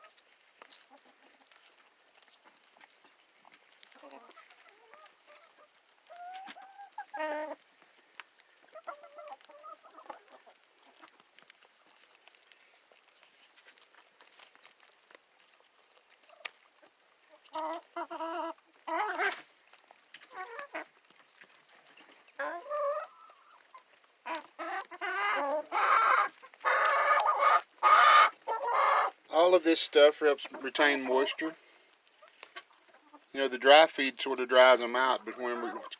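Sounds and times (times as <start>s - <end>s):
hens clucking: 0.0s - 35.9s.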